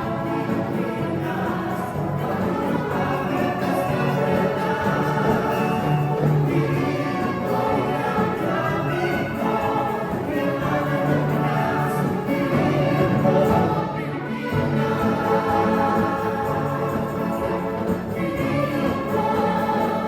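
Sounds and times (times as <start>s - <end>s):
orchestra and choir performing: 0.0s - 20.0s.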